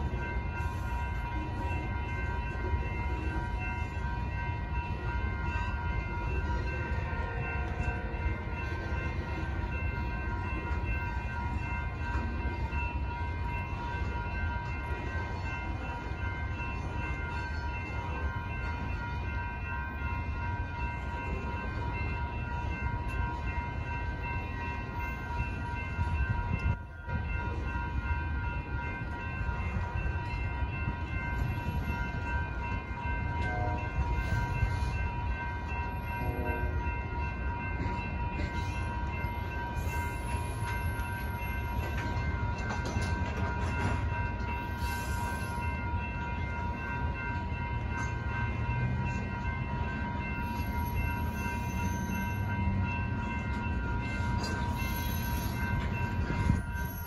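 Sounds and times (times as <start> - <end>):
crossing warning bells ringing: 0.0 - 57.0
train wheels rumbling on rails: 0.0 - 57.0.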